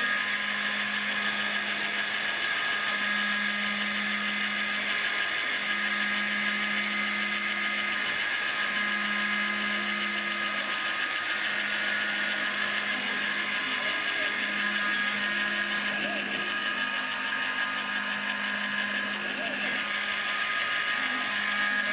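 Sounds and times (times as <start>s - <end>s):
axis drives humming: 0.0s - 21.9s
mill spindle high whine: 0.0s - 21.9s.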